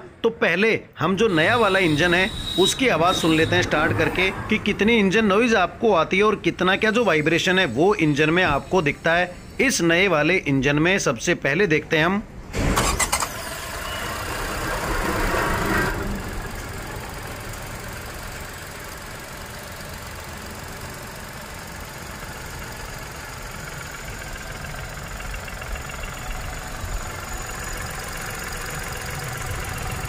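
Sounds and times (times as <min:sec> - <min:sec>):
car engine idling: 0:01.3 - 0:09.9, 0:12.8 - 0:30.0.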